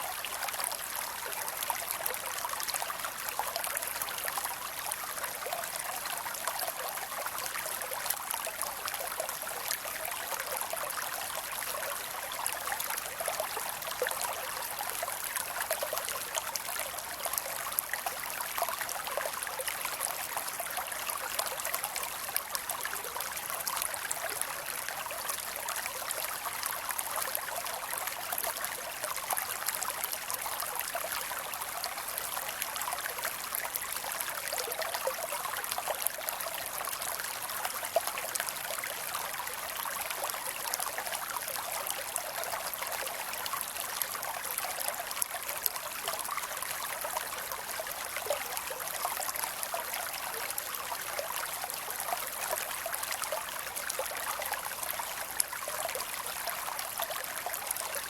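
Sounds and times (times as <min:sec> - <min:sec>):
creek water flowing over rocks: 0:00.0 - 0:58.0.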